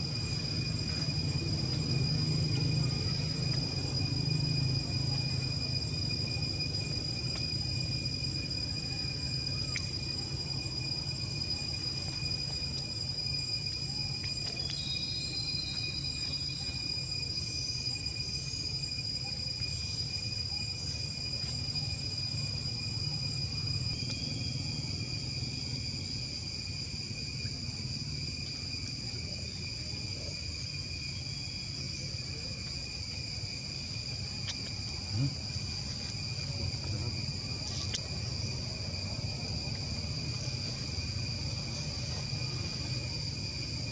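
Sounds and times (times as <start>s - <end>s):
insects chorus: 0.0s - 43.9s.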